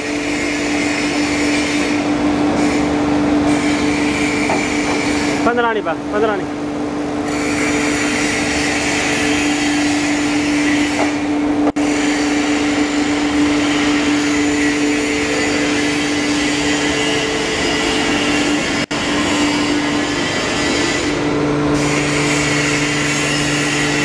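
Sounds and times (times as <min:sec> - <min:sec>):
foam-cutting machine humming: 0:00.0 - 0:24.0.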